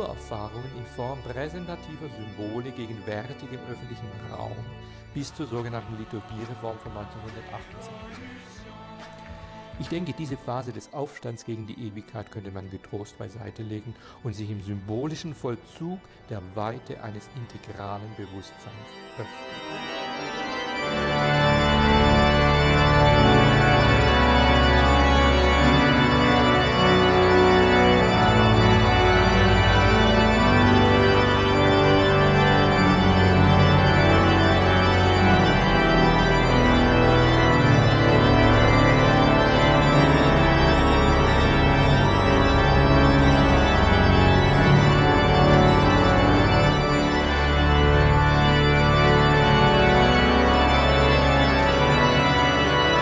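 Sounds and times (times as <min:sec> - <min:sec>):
organ chords: 0:00.0 - 0:53.0.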